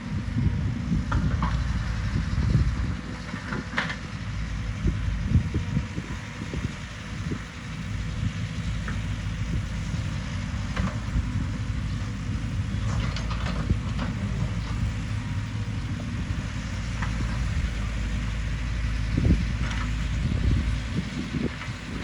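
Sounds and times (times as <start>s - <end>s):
diesel engine running at low revs: 0.0s - 22.0s.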